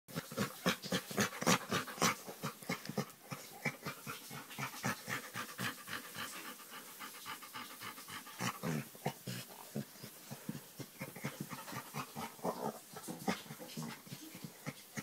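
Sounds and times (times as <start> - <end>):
dog breathing rapidly: 0.1 - 15.0.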